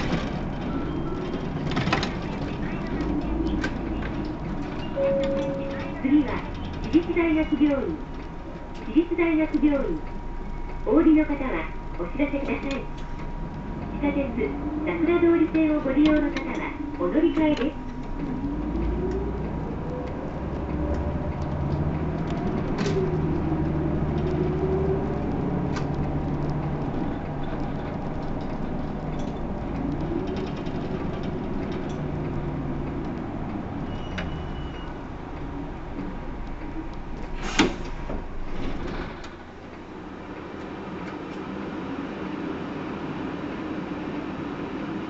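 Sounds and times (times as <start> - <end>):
bus diesel engine: 0.0 - 45.0
road rumble: 0.0 - 45.0.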